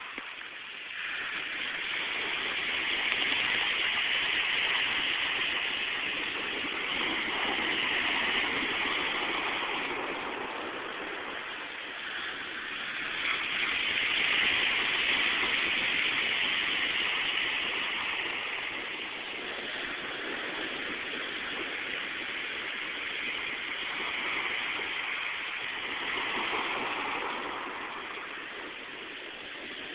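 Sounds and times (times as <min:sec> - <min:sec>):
ocean waves breaking on beach: 0:00.0 - 0:29.9.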